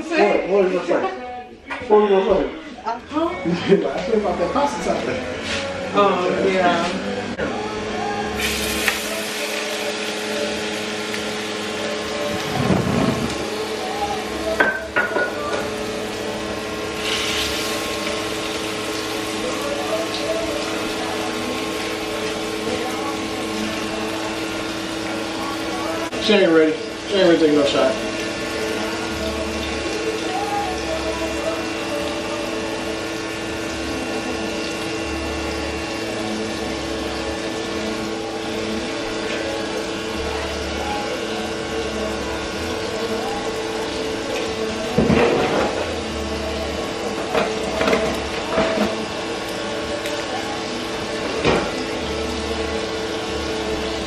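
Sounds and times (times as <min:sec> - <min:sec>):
steady hum: 0:04.1 - 0:54.0
boiling and frying bubbling hiss: 0:07.6 - 0:54.0
food sizzling in a skillet: 0:08.3 - 0:54.0.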